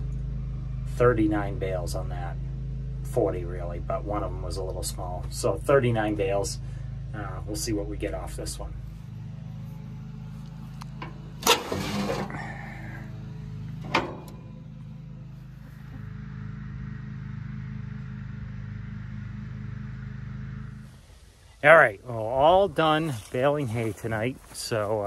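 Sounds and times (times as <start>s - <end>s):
tractor engine humming: 0.0s - 25.0s.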